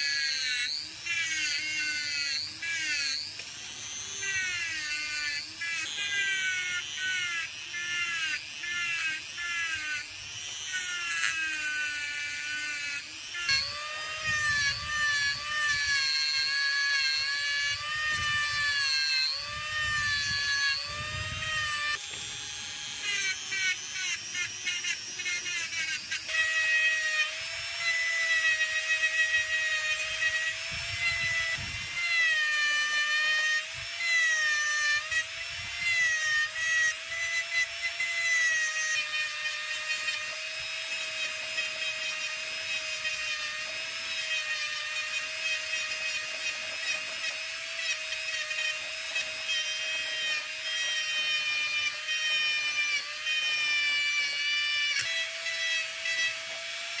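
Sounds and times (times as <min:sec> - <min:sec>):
rotary tool whining: 0:00.0 - 0:57.0.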